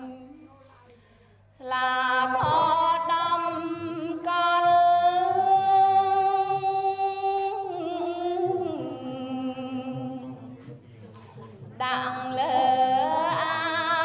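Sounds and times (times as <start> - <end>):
woman chanting unaccompanied: 0.0 - 0.5, 1.6 - 10.5, 11.8 - 14.0.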